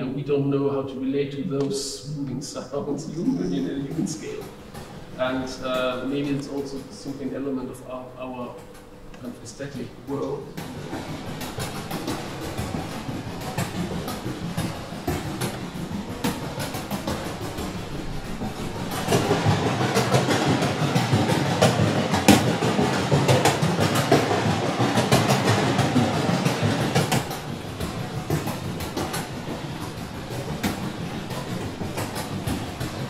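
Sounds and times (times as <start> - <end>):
rumbling crackling electroacoustic noise: 0.0 - 33.0.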